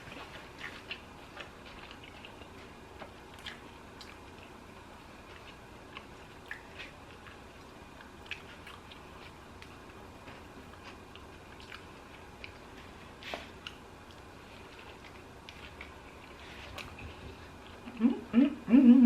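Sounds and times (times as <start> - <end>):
person chewing food: 0.0 - 18.3.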